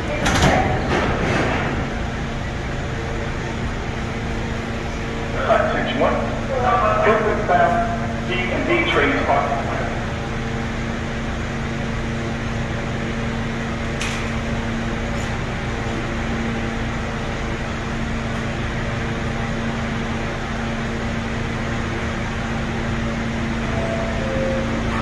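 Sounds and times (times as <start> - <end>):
train equipment humming: 0.0 - 25.0.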